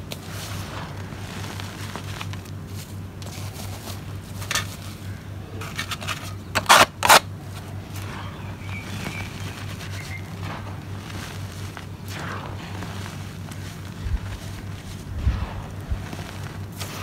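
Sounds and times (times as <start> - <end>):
soil crumbling by hand: 0.0 - 17.0
soil lumps crunching: 0.0 - 17.0.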